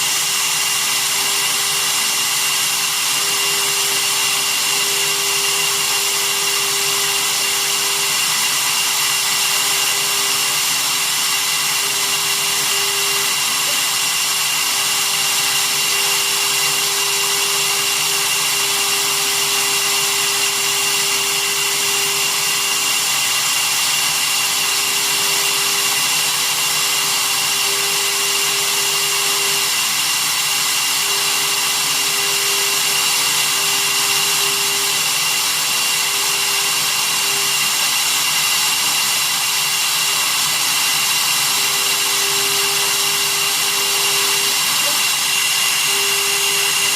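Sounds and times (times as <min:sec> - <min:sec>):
spindle motor high whine: 0:00.0 - 0:46.9.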